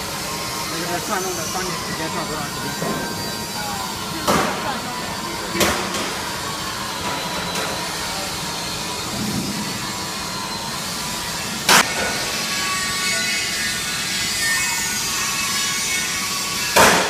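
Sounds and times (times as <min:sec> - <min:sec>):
mixer machine humming: 0:00.0 - 0:16.2.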